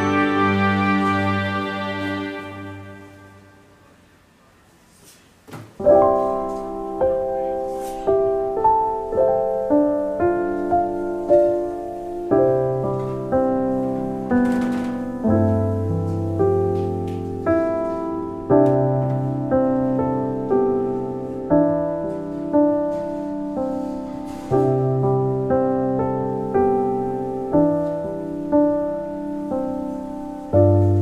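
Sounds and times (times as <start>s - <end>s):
slow gentle piano music: 0.0s - 4.2s, 5.8s - 31.0s.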